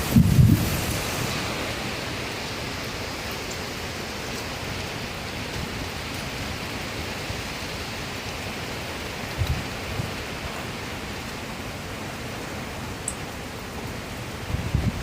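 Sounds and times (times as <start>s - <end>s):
heavy rain in strong wind: 0.0s - 15.0s.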